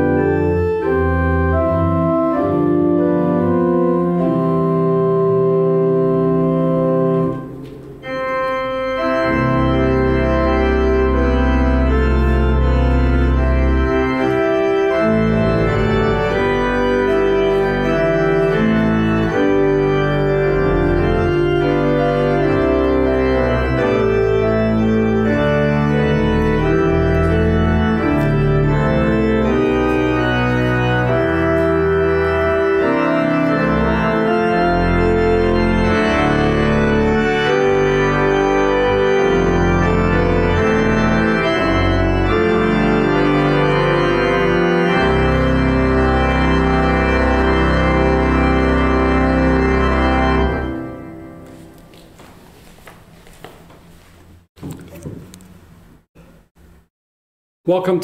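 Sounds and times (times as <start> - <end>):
organ chords: 0.0 - 54.4.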